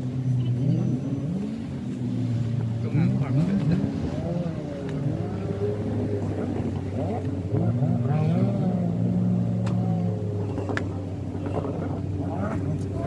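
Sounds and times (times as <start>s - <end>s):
jet ski engines revving: 0.0s - 13.0s.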